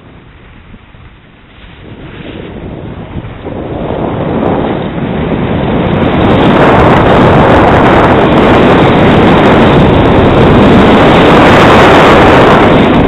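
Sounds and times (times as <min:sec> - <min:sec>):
skis sliding over snow: 0:00.0 - 0:13.0
wind rushing over microphone: 0:00.0 - 0:13.0.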